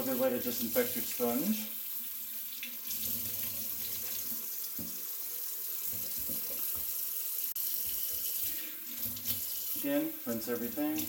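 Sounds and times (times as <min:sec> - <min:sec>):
faucet running into steel sink: 0:00.0 - 0:11.0.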